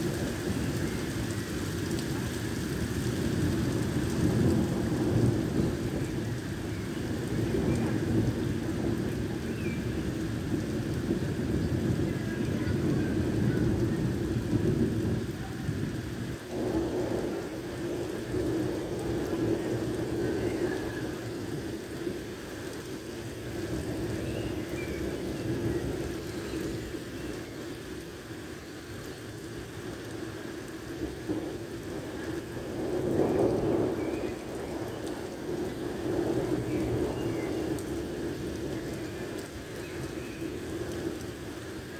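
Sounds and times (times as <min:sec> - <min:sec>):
thunder rumbling: 0:00.0 - 0:28.6, 0:29.2 - 0:41.9
heavy rain on flooded street: 0:00.0 - 0:41.9.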